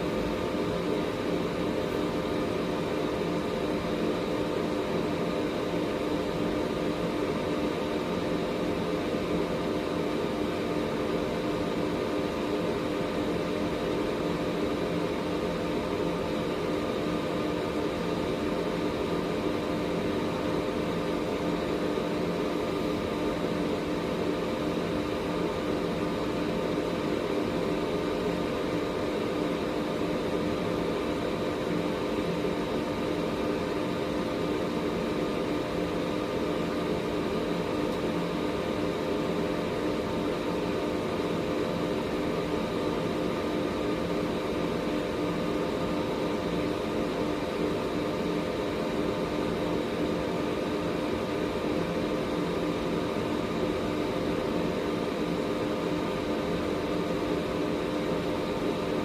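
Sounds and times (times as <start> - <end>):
air purifier fan running: 0.0 - 59.0.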